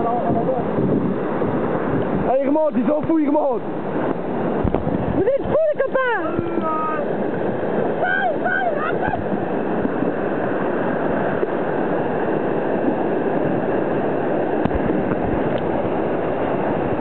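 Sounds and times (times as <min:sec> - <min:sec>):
water rushing over rapids: 0:00.0 - 0:17.0.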